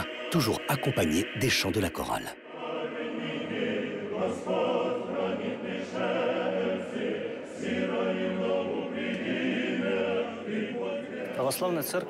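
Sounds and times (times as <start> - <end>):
men's choir chanting a cappella: 0.0 - 12.0.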